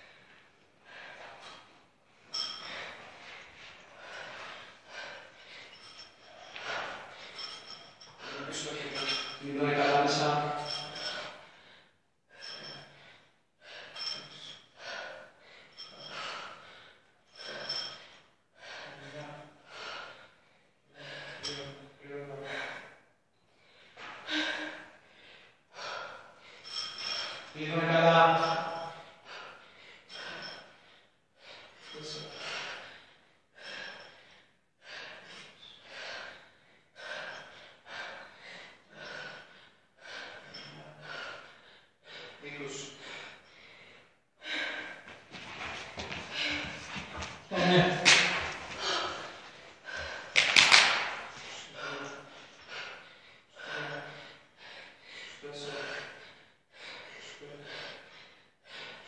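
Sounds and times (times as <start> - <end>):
woman breathing hard: 0.0 - 9.4, 10.6 - 27.6, 28.4 - 59.0.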